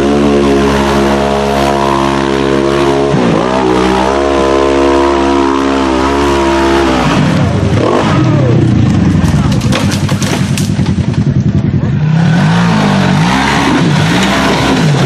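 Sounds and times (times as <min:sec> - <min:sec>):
utv engine at high revs: 0:00.0 - 0:15.0.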